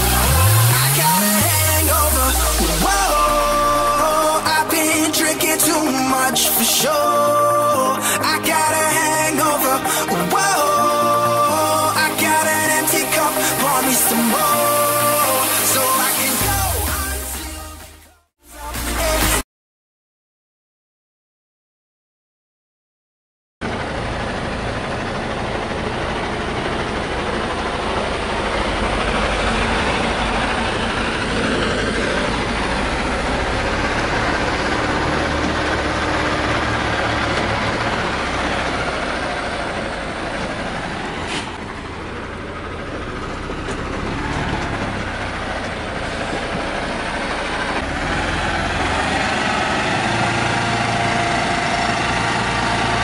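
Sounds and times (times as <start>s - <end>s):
truck diesel engine running: 0.0s - 19.4s, 23.6s - 53.0s.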